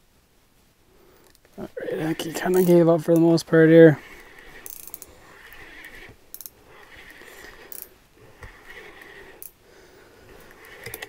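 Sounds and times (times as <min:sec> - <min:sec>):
reel clicks: 0:01.2 - 0:09.6, 0:10.3 - 0:11.0
fishing reel whirring: 0:02.0 - 0:11.0.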